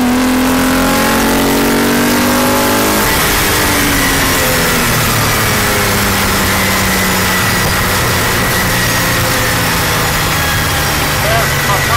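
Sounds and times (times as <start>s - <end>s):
race car engine: 0.0s - 11.9s.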